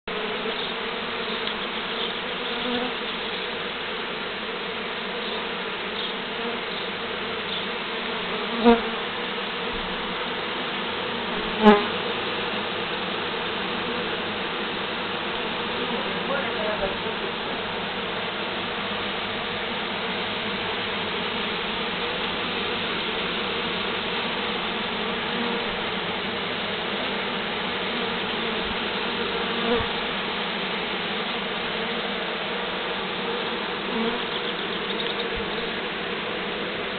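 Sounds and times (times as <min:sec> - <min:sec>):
bee swarm buzzing: 0:00.1 - 0:36.9.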